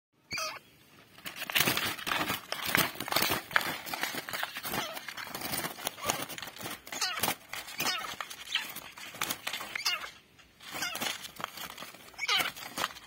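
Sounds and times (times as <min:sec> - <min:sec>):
wire-mesh cage rattling: 0:01.2 - 0:13.0.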